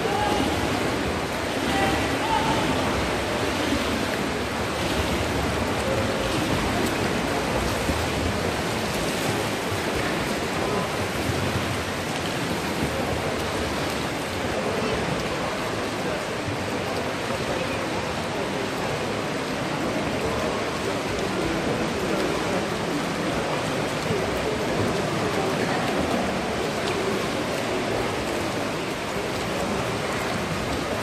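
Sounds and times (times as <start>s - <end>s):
water splashing: 0.0s - 31.0s.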